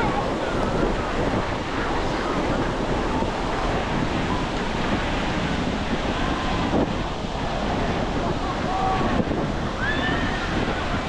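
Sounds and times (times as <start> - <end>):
sea surf washing onto beach: 0.0 - 11.0
wind buffeting microphone: 0.0 - 11.0.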